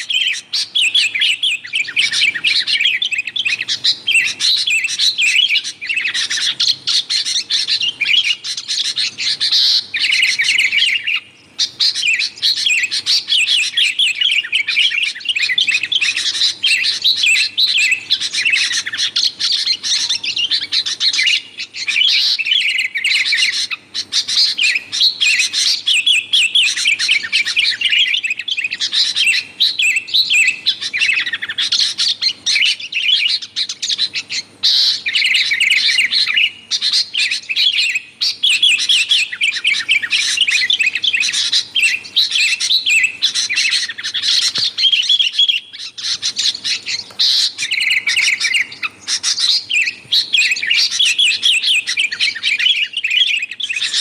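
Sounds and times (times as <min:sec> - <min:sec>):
bulbul chirping: 0:00.0 - 0:54.0.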